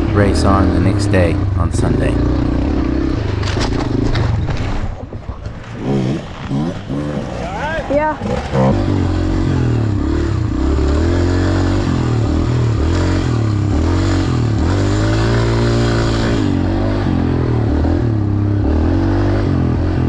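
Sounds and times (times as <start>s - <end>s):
dirt bike engine revving: 0.0s - 4.9s, 5.7s - 20.0s.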